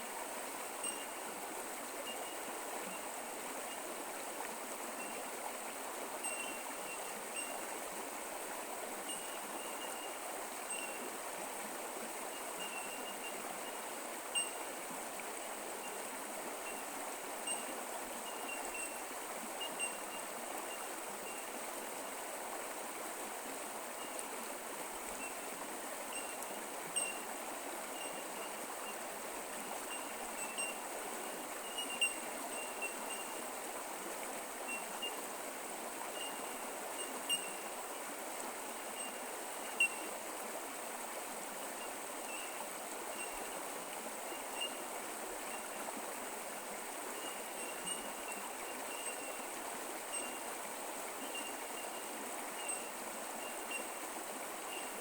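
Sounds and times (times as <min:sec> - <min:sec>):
creek water babbling: 0:00.0 - 0:55.0.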